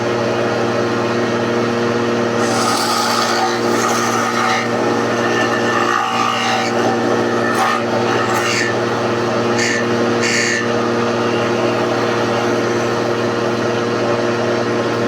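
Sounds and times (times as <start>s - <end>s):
electric planer motor humming: 0.0s - 15.0s
planer blades rasping wood: 0.0s - 15.0s.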